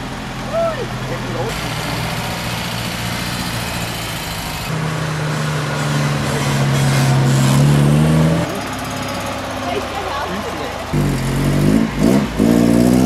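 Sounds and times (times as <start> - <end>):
cars driving slowly past: 0.0 - 13.0.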